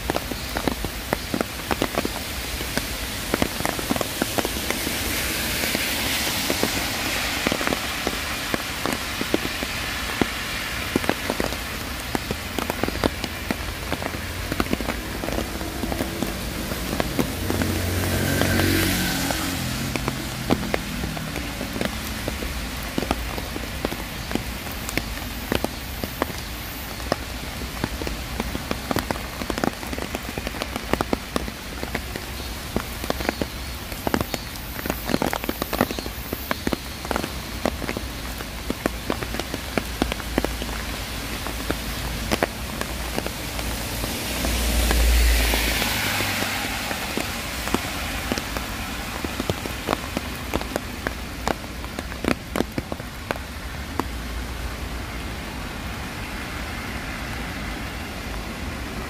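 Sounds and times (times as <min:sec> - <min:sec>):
drops dripping and spattering: 0:00.0 - 0:55.2
hiss and low rumble: 0:00.0 - 0:59.0
steady rain: 0:00.0 - 0:59.0.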